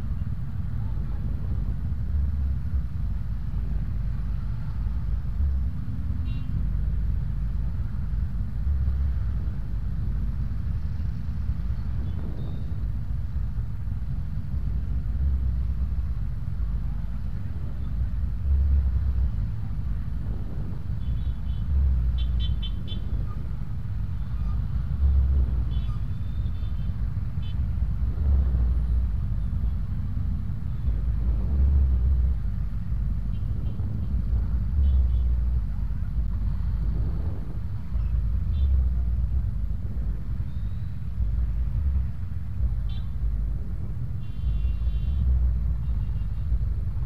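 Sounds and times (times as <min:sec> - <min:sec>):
traffic engine rumble: 0:00.0 - 0:47.0.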